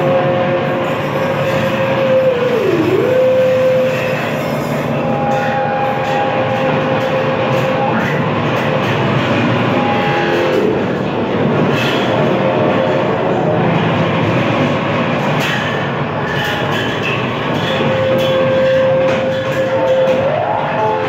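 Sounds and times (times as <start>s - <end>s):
bending held tone: 0.0s - 14.0s, 15.4s - 21.0s
rumbling electronic noise drone: 0.0s - 21.0s.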